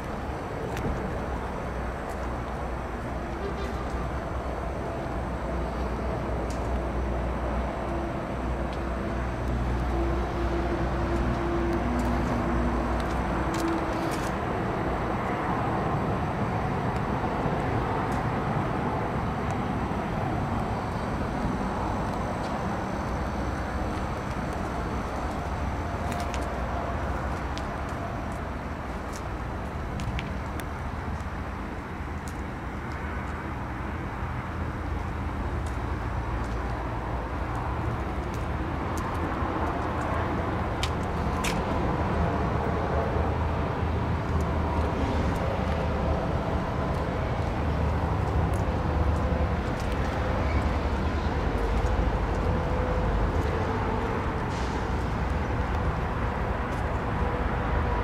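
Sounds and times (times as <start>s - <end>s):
road traffic rumble: 0.0s - 58.0s
vehicle engine hum: 0.0s - 58.0s.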